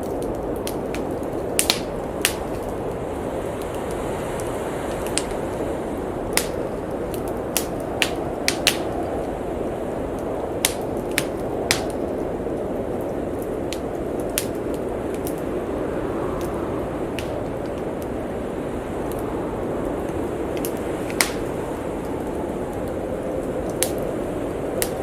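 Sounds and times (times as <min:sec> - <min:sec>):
blizzard wind rushing: 0:00.0 - 0:25.0
wood fire crackling and popping: 0:00.0 - 0:25.0.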